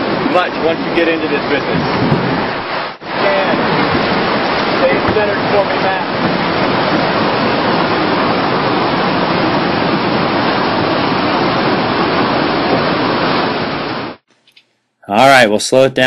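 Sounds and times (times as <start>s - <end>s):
whitewater rushing: 0.0s - 14.2s.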